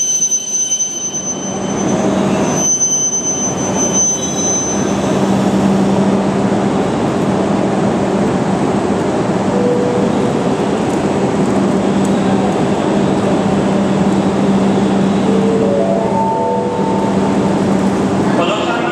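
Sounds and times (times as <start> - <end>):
train running noise: 0.0 - 18.9.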